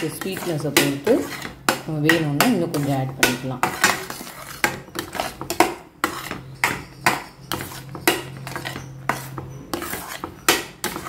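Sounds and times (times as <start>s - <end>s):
metal spatula scraping a pot: 0.0s - 11.0s.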